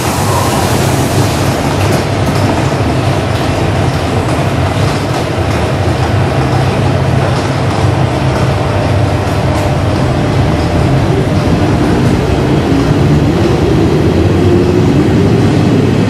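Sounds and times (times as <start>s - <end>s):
loud steady rumbling noise: 0.0s - 16.0s.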